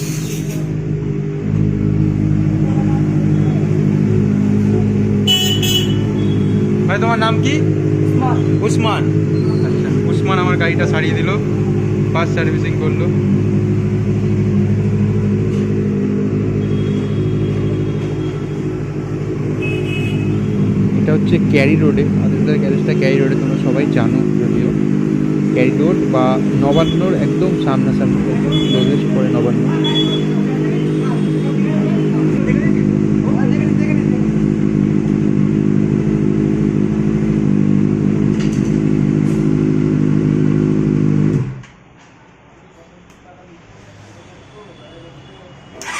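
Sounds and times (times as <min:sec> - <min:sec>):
motorcycle engine idling: 0:00.8 - 0:41.3.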